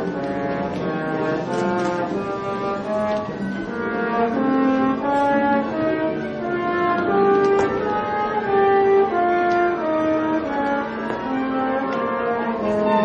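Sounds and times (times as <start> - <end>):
orchestral music with brass: 0.0 - 13.0.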